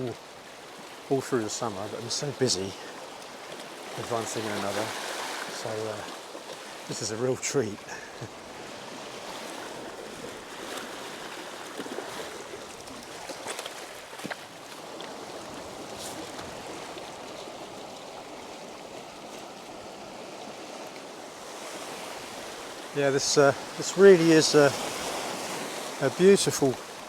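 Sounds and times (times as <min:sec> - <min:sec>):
small waves on stony beach: 0:00.0 - 0:27.0.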